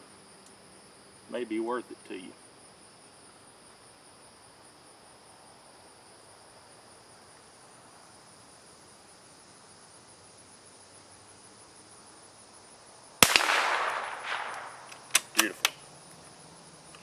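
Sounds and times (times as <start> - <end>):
lower continuous insect tone: 0.0 - 17.0
very high pulsing insect trill: 0.0 - 17.0.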